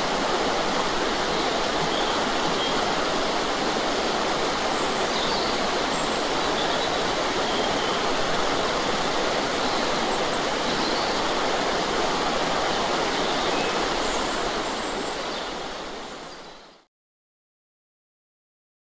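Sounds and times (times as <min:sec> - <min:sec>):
small water cascade: 0:00.0 - 0:16.9.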